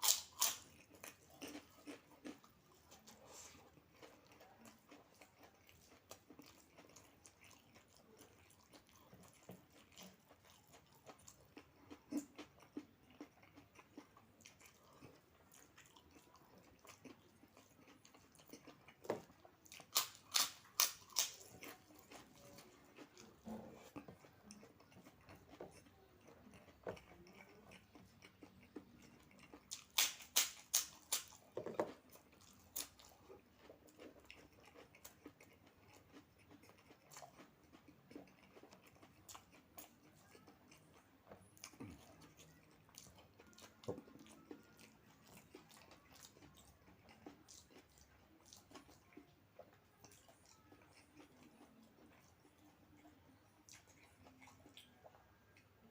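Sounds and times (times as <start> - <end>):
crackers crunching: 0.0 - 49.1
soft chewing: 0.0 - 55.9.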